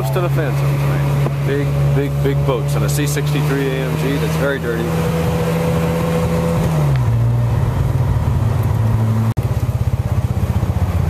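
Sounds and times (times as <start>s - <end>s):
car engine hum: 0.0s - 11.0s
rough pulsing engine rumble: 0.0s - 11.0s.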